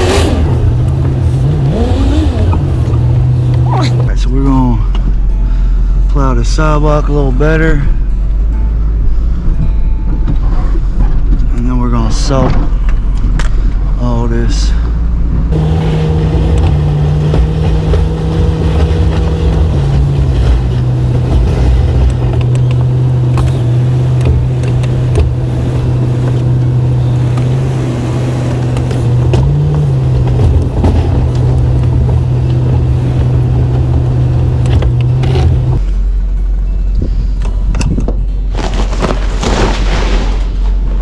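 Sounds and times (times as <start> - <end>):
truck engine droning: 0.0 - 11.6, 14.7 - 41.0.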